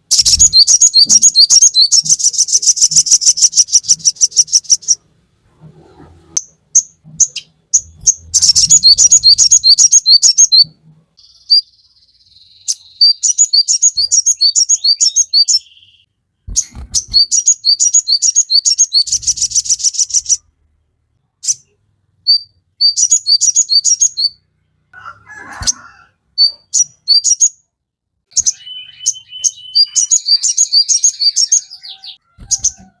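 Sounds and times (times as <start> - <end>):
songbird chirping and trilling: 0.0 - 5.1, 6.2 - 33.0.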